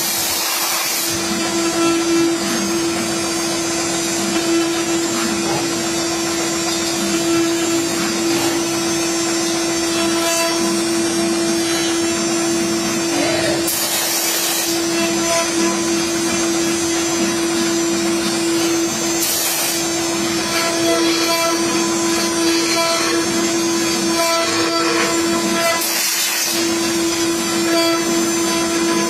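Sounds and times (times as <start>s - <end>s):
router spindle whine: 0.0s - 29.0s.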